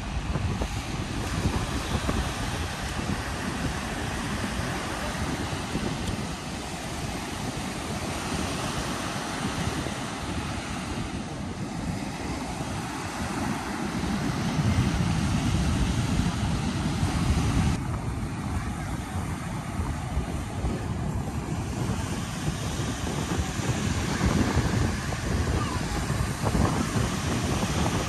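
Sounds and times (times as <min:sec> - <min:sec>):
surf breaking on beach: 0:00.0 - 0:28.0
wind rumbling on microphone: 0:00.0 - 0:28.0.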